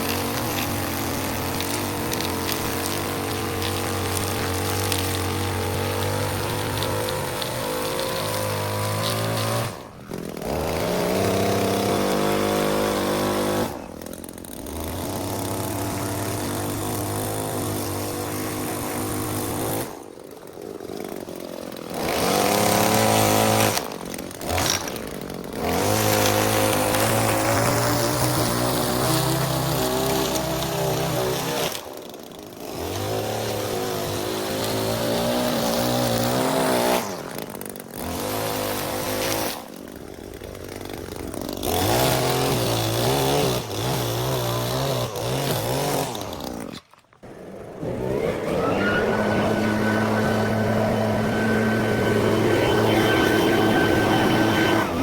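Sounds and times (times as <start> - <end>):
small petrol engine running: 0.0 - 55.0.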